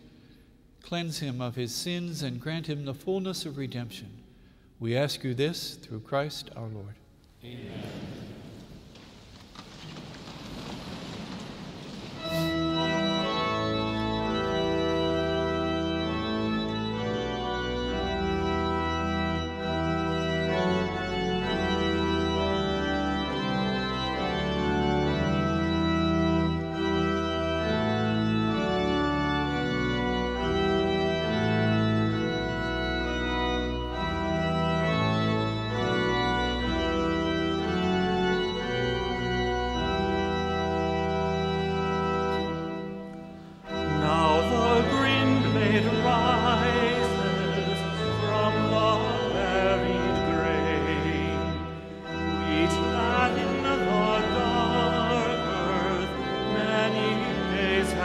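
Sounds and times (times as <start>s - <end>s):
pipe organ playing chords: 0.0s - 9.0s, 9.8s - 58.0s.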